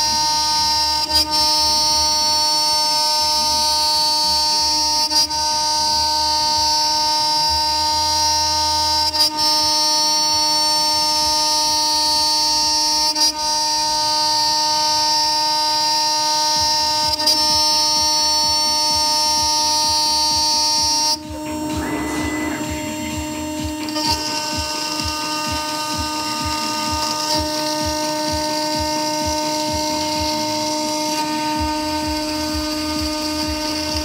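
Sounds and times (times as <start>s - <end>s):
router spindle high whine: 0.0s - 34.0s.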